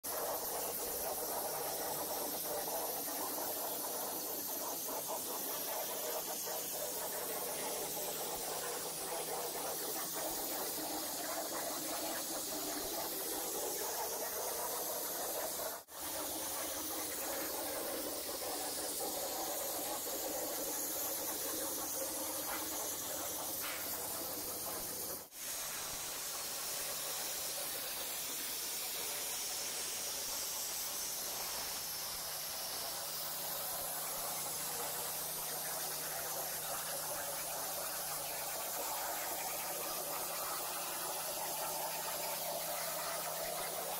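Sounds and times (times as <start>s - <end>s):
plasma torch cutting steel: 0.1s - 43.9s.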